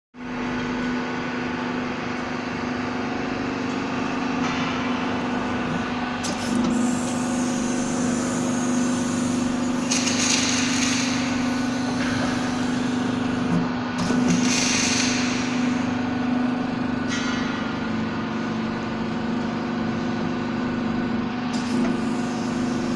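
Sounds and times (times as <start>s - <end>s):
machine humming: 0.2s - 22.9s.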